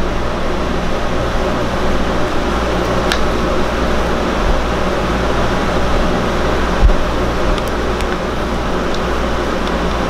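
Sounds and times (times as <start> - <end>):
fan humming and hissing: 0.0 - 10.0
low steady drone: 0.0 - 10.0.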